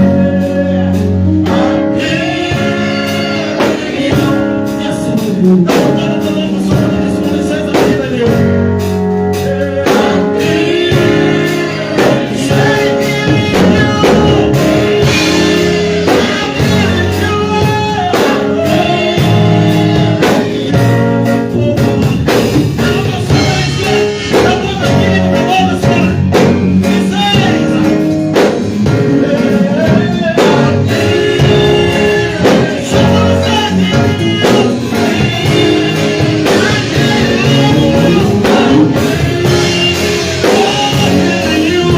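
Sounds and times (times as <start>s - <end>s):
band with drums: 0.0s - 41.9s
voices singing gospel song: 0.0s - 41.9s.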